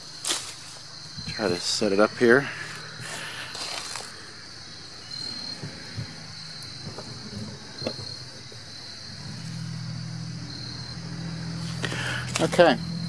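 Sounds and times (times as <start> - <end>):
high-pitched insect drone: 0.0 - 13.0
vehicle engine hum: 0.0 - 13.0.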